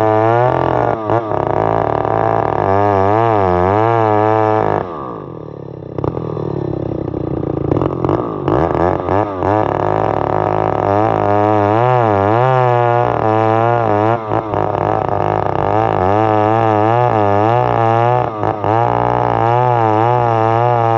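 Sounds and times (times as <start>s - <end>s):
chainsaw revving: 0.0s - 20.9s.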